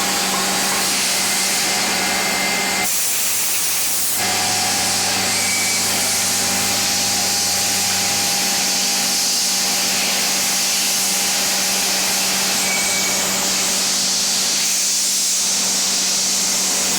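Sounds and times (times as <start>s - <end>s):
milling machine hum: 0.0s - 14.7s
milling machine hiss: 0.0s - 16.9s.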